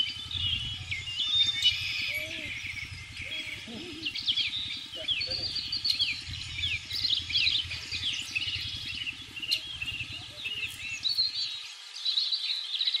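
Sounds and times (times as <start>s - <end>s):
low rumble: 0.0s - 11.6s
small birds chirping: 0.0s - 13.0s.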